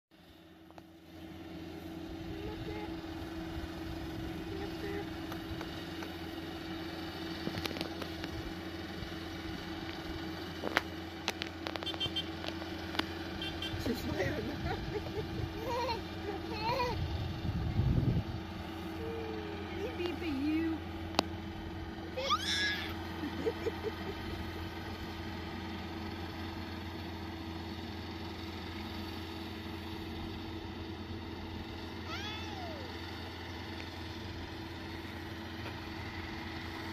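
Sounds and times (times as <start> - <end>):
tractor engine drone: 0.1 - 36.9.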